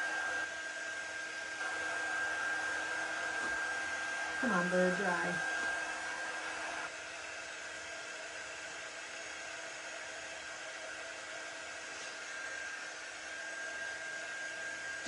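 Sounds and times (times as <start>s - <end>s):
electric dryer blowing air: 0.0s - 15.0s.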